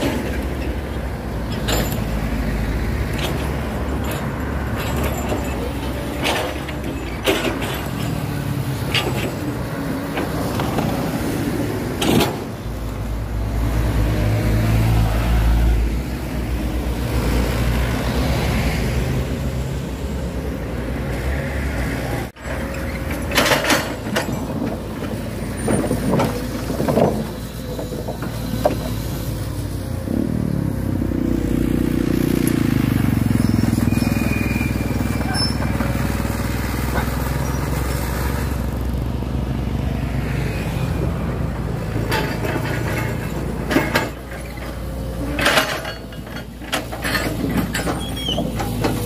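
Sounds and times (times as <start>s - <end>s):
cars and truck driving past: 0.0s - 49.0s
excavator diesel engine running: 0.0s - 49.0s.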